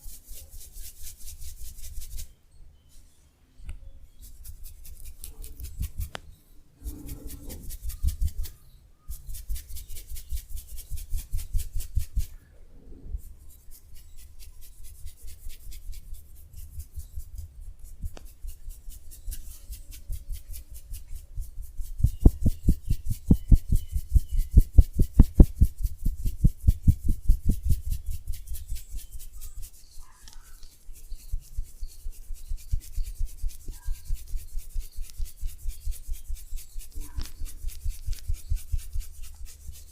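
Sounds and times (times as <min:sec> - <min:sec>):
hands rubbing skin and hair: 0:04.2 - 0:12.4, 0:13.2 - 0:39.9.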